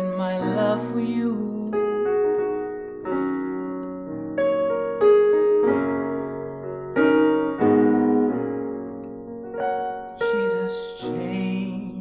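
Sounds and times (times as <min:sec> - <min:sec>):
gospel piano chords: 0:00.0 - 0:12.0.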